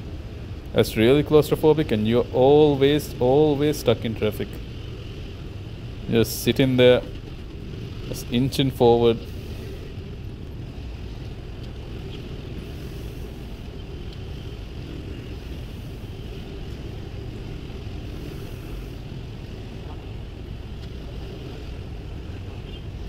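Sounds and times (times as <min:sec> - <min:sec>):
motorcycle ride in traffic: 0:00.0 - 0:23.0.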